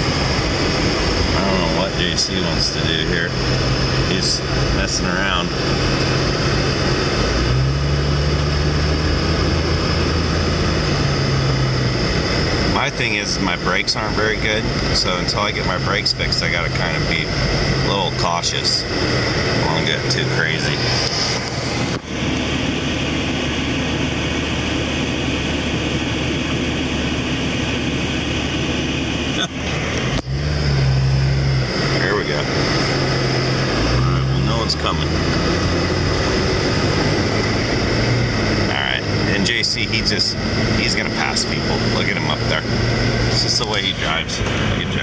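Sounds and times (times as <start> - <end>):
car engine while driving: 0.0 - 45.0
road noise hiss: 0.0 - 45.0.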